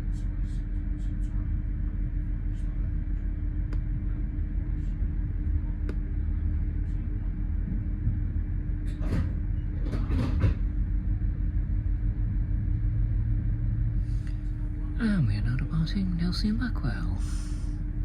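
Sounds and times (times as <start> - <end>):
train interior rumble and hum: 0.0 - 18.0.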